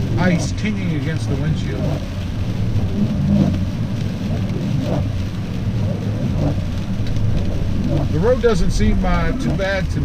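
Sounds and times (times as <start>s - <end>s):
in-cabin road and engine drone: 0.0s - 10.0s.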